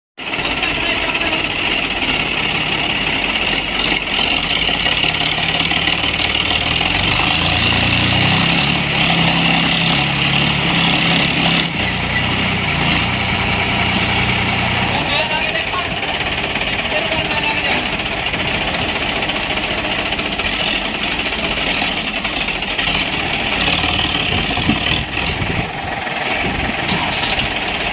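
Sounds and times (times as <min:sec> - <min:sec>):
diesel tractor engines running: 0:00.2 - 0:27.9
engine revving: 0:00.3 - 0:27.9.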